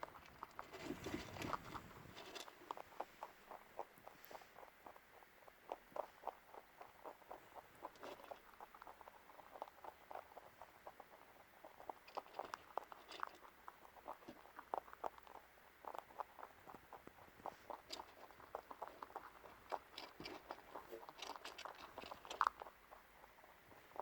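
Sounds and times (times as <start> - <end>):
rabbit chewing food: 0.0 - 24.0.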